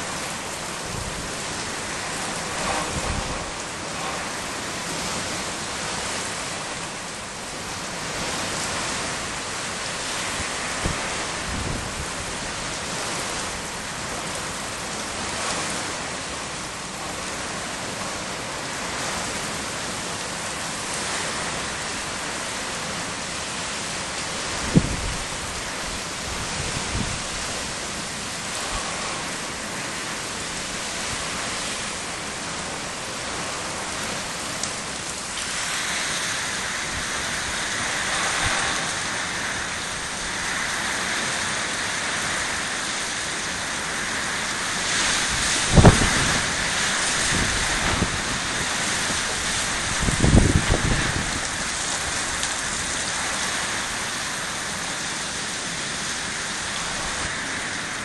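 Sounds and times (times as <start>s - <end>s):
heavy rain: 0.0s - 58.0s
wind: 0.0s - 58.0s.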